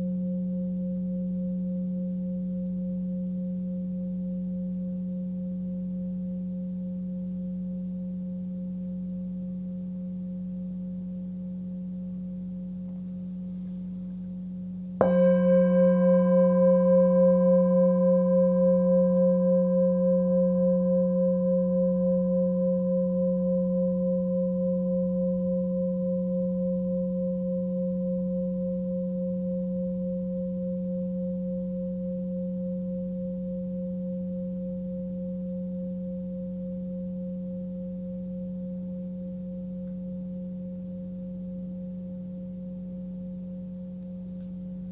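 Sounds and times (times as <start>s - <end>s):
singing bowl humming: 0.0s - 44.9s
singing bowl struck and ringing: 0.0s - 44.9s.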